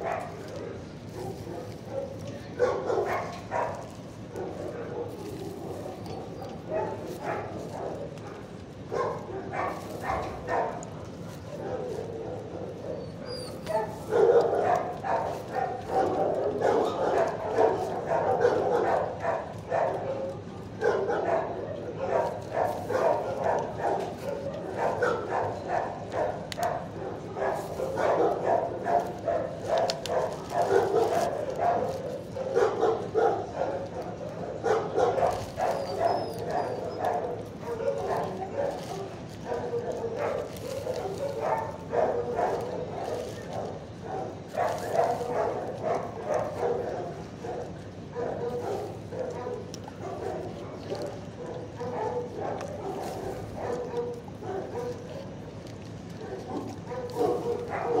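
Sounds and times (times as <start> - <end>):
dogs barking: 0.0 - 58.0.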